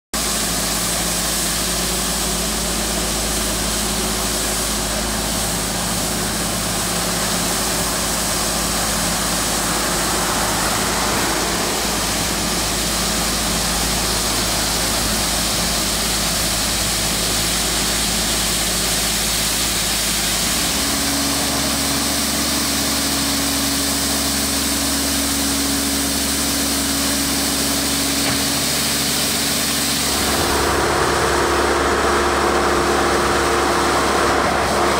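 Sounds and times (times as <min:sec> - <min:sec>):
tractor engine hum: 0:00.2 - 0:34.9.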